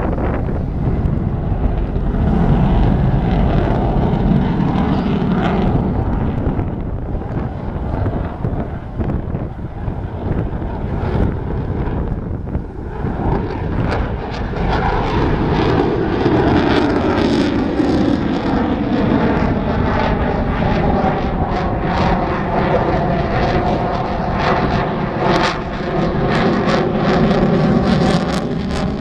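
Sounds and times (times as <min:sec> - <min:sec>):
jet engines roaring with crackle: 0:00.0 - 0:29.0.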